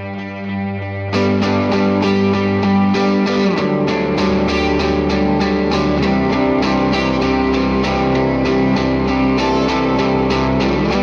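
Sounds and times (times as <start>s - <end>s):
instrumental guitar music with beat: 0.0s - 11.0s.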